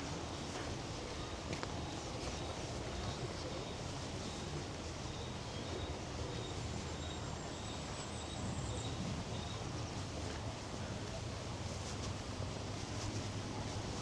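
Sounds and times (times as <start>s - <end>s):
steady outdoor background noise: 0.0s - 14.0s.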